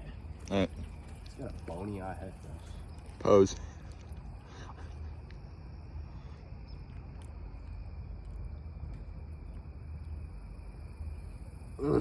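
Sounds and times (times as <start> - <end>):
faint insect drone: 0.0 - 12.0.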